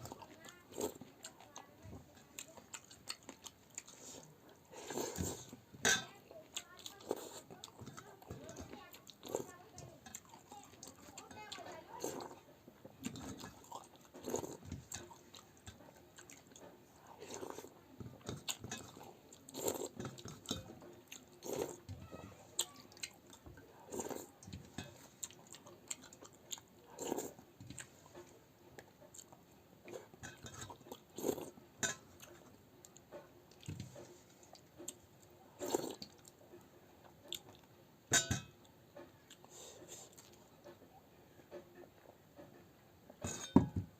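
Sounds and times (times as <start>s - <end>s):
person chewing food: 0.0s - 37.8s, 38.4s - 42.6s.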